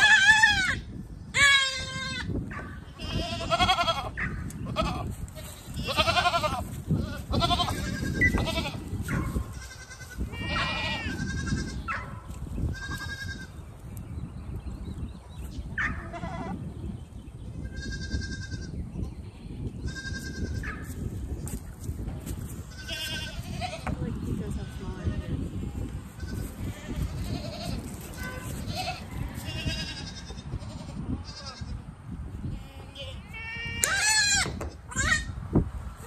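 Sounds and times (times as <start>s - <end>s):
goat kids bleating: 0.0s - 12.0s, 12.6s - 13.6s, 16.0s - 16.6s, 17.6s - 20.7s, 22.6s - 31.8s, 32.4s - 35.4s.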